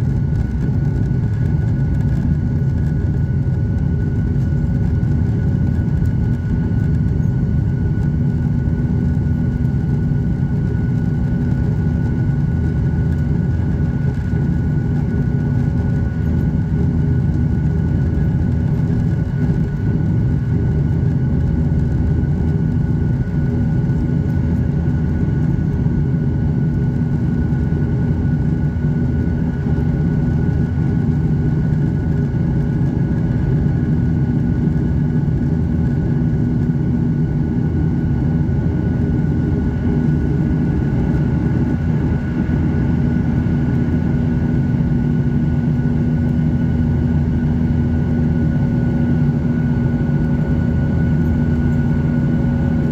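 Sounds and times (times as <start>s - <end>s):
airplane cabin engine drone: 0.0s - 52.9s
high engine whine: 0.0s - 52.9s.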